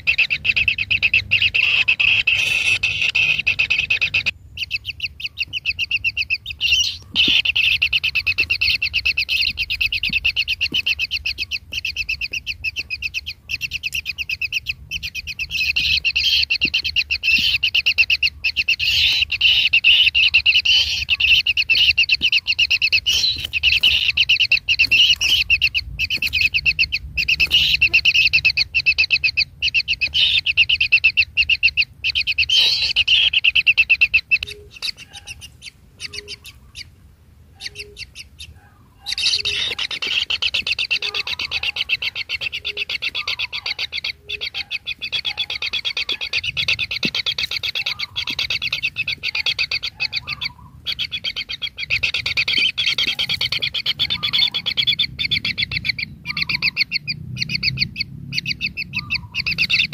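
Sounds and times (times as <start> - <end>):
nestlings chirping: 0.0 - 59.9.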